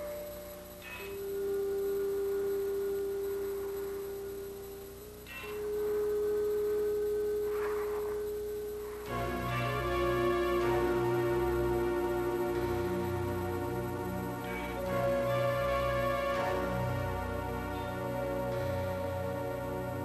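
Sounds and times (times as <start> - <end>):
eerie electronic tones: 0.0 - 20.0
faint shimmering sounds: 0.0 - 20.0.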